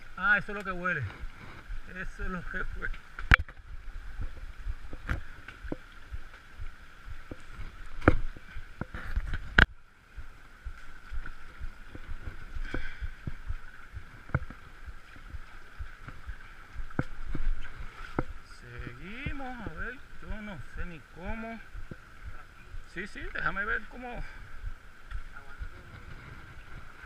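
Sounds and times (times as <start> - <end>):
water splashing around legs: 0.0 - 27.0.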